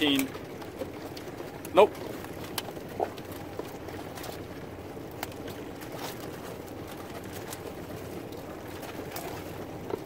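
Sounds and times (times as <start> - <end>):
water noise: 0.0 - 10.0
wind: 0.0 - 10.0.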